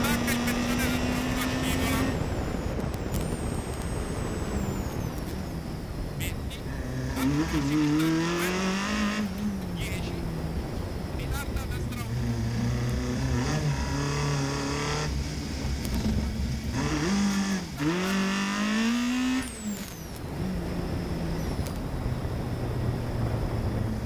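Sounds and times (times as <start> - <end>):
rally car engine: 0.0 - 24.0.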